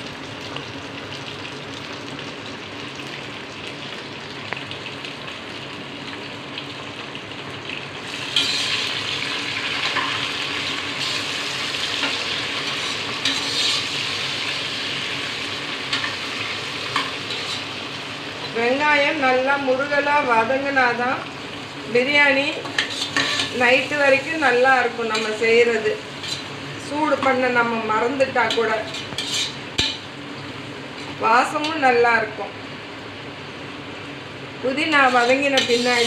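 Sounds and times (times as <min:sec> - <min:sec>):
onions sizzling in a pan: 0:00.0 - 0:36.0.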